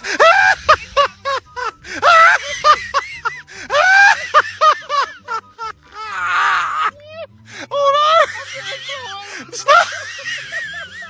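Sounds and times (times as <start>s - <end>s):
person laughing hysterically: 0.0s - 11.0s.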